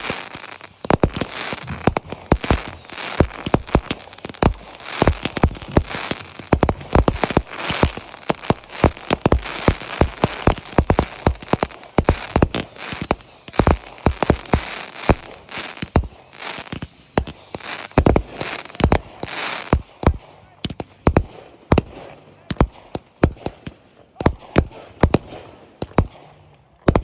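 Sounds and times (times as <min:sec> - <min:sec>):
whistling fireworks falling in pitch: 0:00.0 - 0:26.2
fireworks bangs and crackling: 0:00.0 - 0:27.0.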